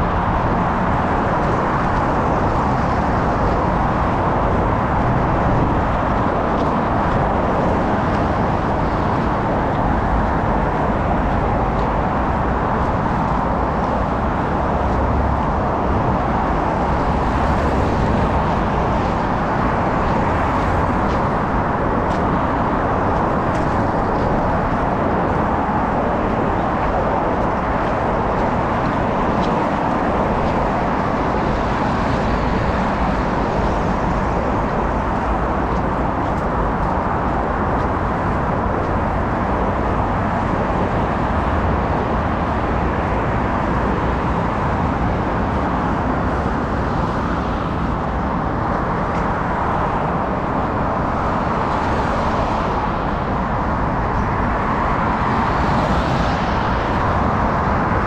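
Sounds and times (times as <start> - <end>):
heavy road traffic: 0.0 - 58.0.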